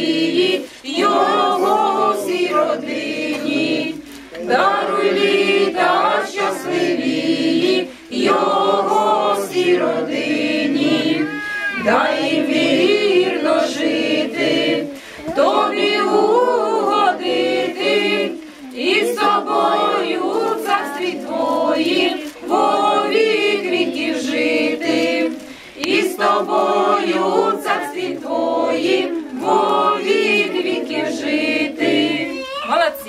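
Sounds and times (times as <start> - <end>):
group singing unaccompanied: 0.0 - 33.0.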